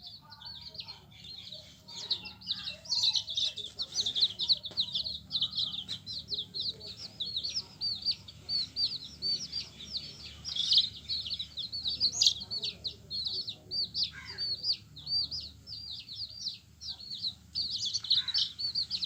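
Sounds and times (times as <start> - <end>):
chicks peeping: 0.0 - 19.0
faint low hum: 0.0 - 19.0.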